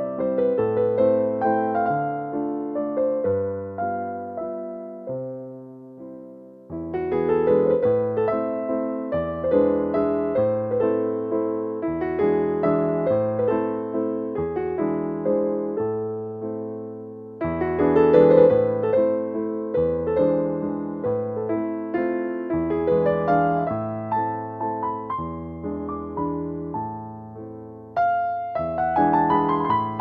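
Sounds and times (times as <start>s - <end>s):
soft piano music: 0.0s - 30.0s.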